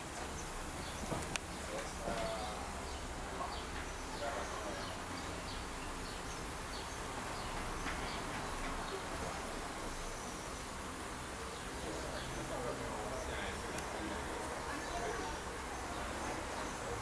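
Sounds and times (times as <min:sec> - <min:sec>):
faint distant voices: 0:00.0 - 0:17.0
low background noise: 0:00.0 - 0:17.0
small birds chirping: 0:00.2 - 0:17.0.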